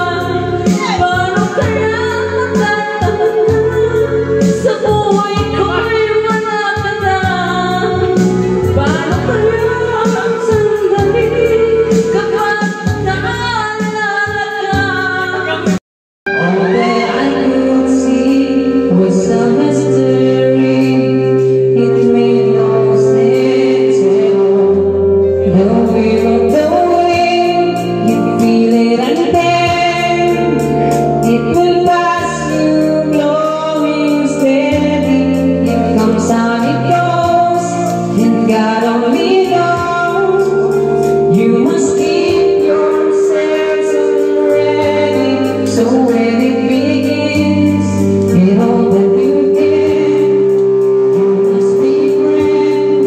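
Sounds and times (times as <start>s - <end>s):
backing track with beat and bass: 0.0s - 53.0s
person singing into microphone: 0.0s - 53.0s.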